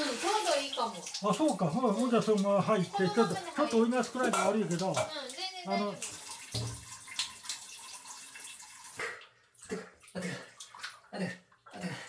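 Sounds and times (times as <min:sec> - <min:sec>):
water sloshing in bathtub: 0:00.0 - 0:12.0.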